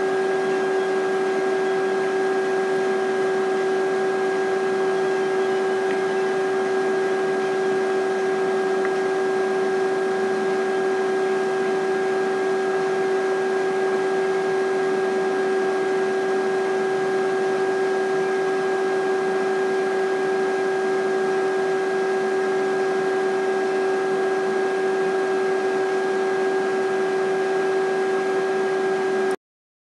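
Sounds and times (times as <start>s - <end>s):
pitched electrical hum: 0.0s - 29.4s.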